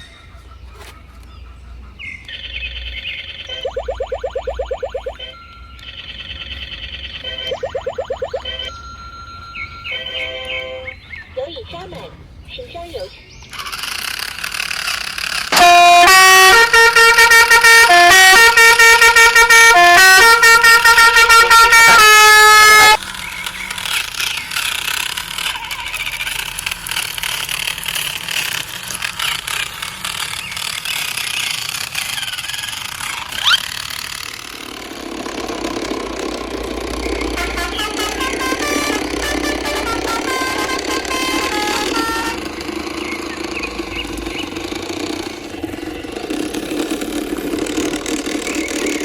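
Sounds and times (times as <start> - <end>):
rattling vehicle running: 0.0 - 49.0
toy truck horn tune: 3.4 - 11.1, 13.6 - 49.0.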